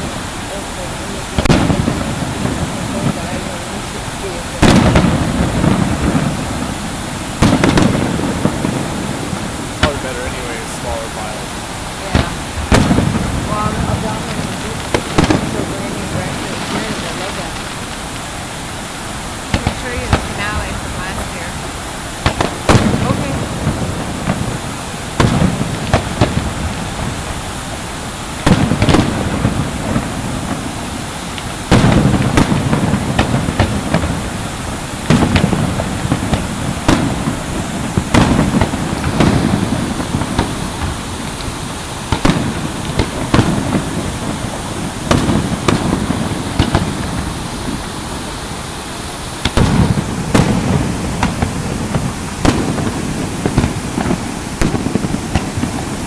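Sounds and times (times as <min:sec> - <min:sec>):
fireworks booming: 0:00.0 - 0:56.0
fireworks crackling and rumbling: 0:00.0 - 0:56.0.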